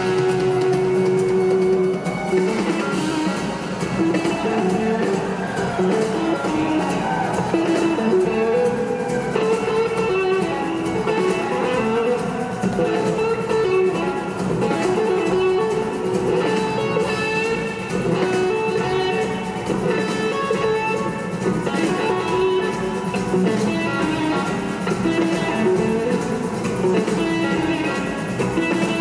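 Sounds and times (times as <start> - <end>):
blues-rock band playing: 0.0 - 29.0
electric guitar riff: 0.0 - 29.0.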